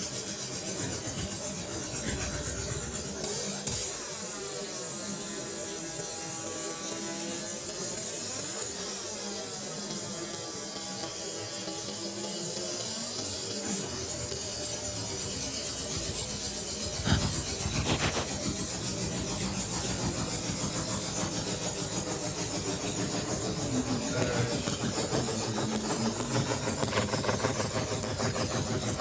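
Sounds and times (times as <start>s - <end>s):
laser engraver motors pulsing: 0.0s - 29.0s.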